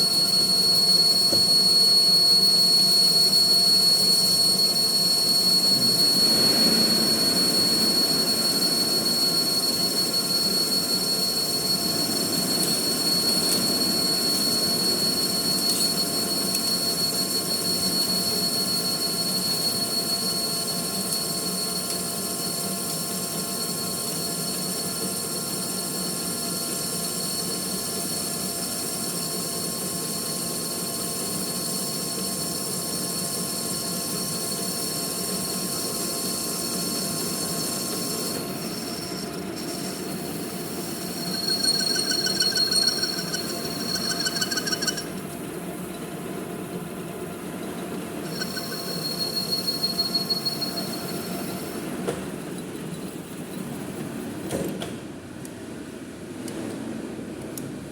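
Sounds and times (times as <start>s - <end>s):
lathe tool squealing against metal: 0.0s - 29.7s, 30.6s - 46.7s, 47.4s - 54.1s
metal lathe humming and whining: 0.0s - 54.0s.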